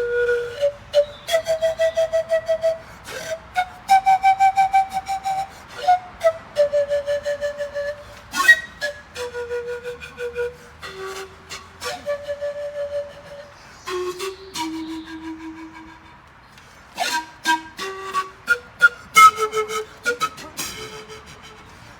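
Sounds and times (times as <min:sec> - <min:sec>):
flute-like melody: 0:00.0 - 0:21.9.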